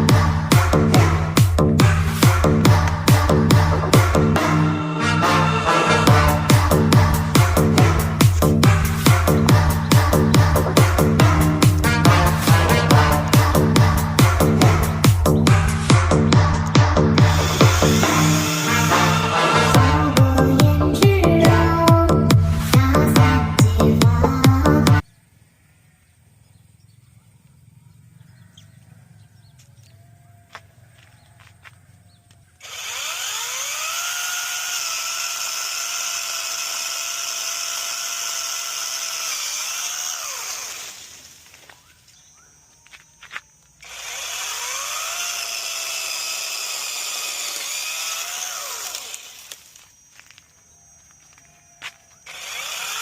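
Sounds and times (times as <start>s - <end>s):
chainsaw whining: 0.0s - 25.0s, 32.3s - 42.0s, 42.9s - 53.0s.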